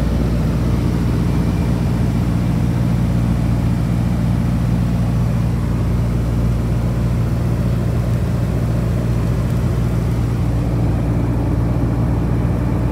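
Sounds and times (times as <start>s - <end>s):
propeller airplane engine drone: 0.0s - 12.9s.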